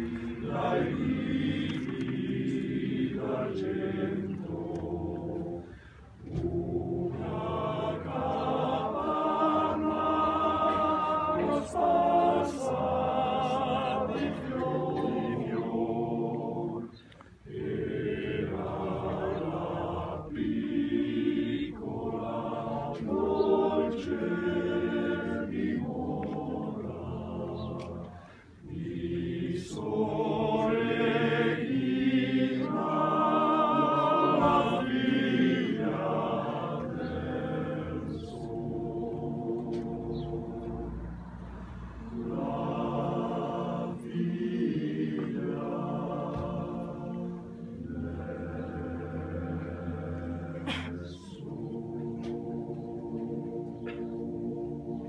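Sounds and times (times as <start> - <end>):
male voice choir singing: 0.0 - 55.0.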